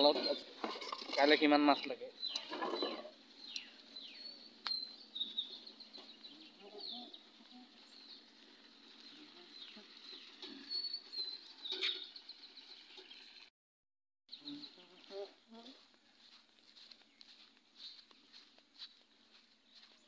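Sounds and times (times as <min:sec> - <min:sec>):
small birds chirping: 0:00.0 - 0:13.5, 0:14.3 - 0:20.0.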